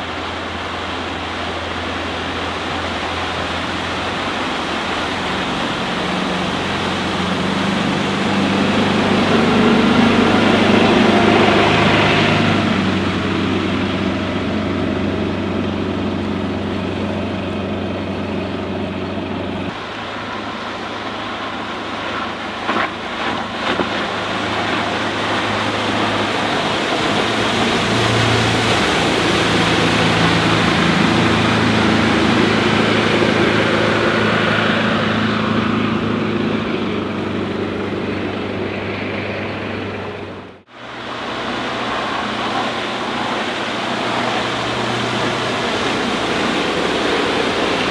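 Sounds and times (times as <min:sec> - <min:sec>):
motorboat engine running: 0:00.0 - 0:47.9
rushing water: 0:00.0 - 0:47.9
wind: 0:00.0 - 0:47.9.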